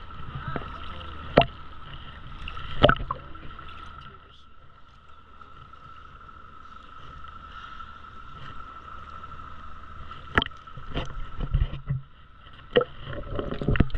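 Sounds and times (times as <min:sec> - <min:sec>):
water splashing and slapping: 0:00.0 - 0:13.9.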